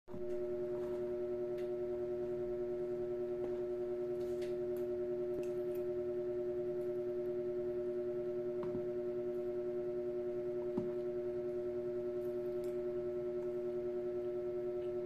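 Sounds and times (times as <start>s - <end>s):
steady machine hum: 0.1s - 15.0s.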